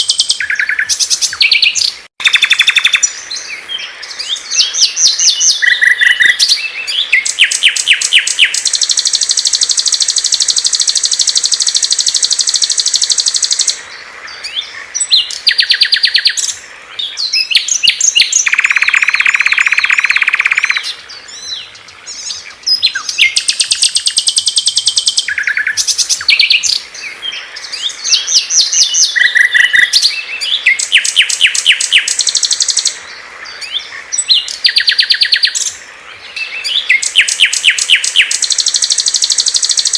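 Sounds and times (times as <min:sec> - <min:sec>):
short bird chirps: 0:00.0 - 0:03.5, 0:04.1 - 0:13.8, 0:14.4 - 0:26.8, 0:27.5 - 0:35.8, 0:36.4 - 0:39.9
songbirds singing trills: 0:00.0 - 0:39.9.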